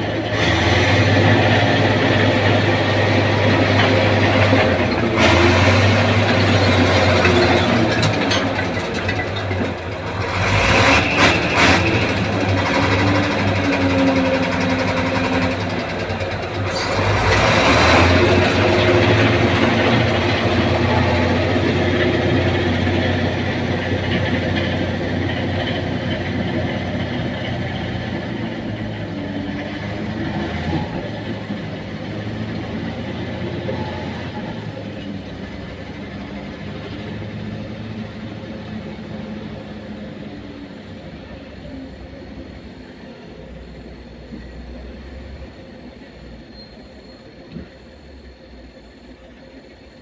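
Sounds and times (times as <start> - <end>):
heavy vehicle engine droning: 0.0 - 50.0.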